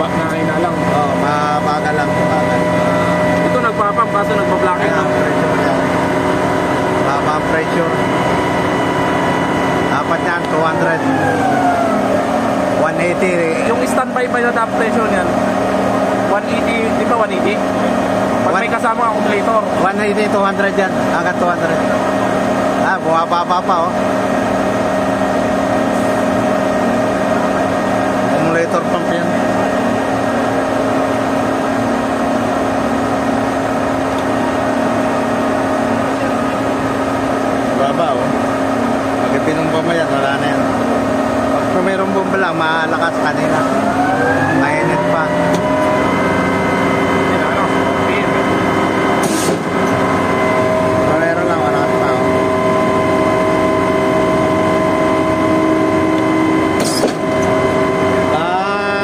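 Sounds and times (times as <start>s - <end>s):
pump truck engine humming: 0.0s - 59.0s.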